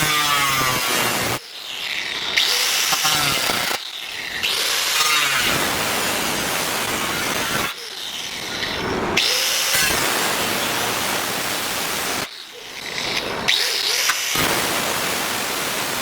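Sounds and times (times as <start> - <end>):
power tool cutting steel: 0.0 - 16.0.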